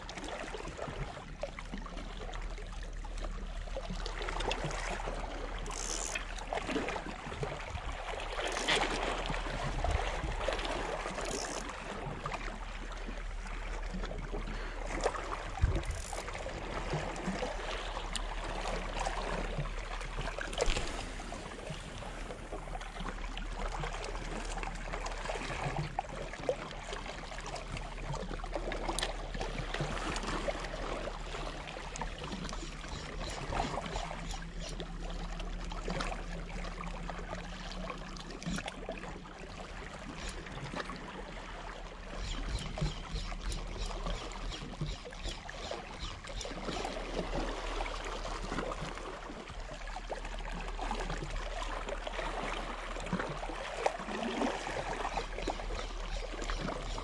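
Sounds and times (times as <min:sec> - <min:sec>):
waves lapping against rocks: 0:00.0 - 0:57.0.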